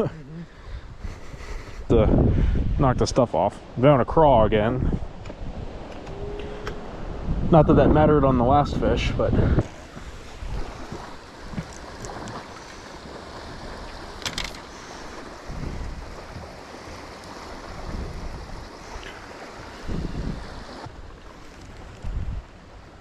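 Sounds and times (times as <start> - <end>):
steady outdoor hiss: 0.0 - 23.0
wind gusting on microphone: 0.7 - 23.0.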